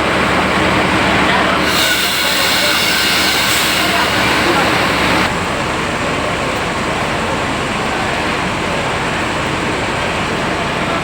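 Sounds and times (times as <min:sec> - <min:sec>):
traffic rumble and hiss: 0:00.0 - 0:11.0.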